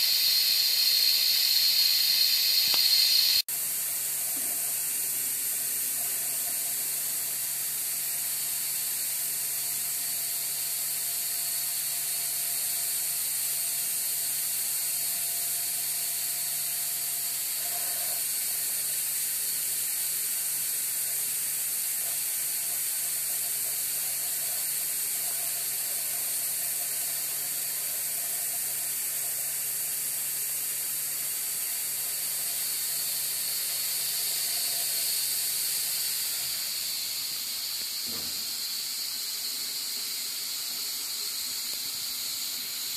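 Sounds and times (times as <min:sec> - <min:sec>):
compressed air hissing: 0:00.0 - 0:10.0, 0:11.6 - 0:42.9
faint motor whine: 0:00.0 - 0:42.9.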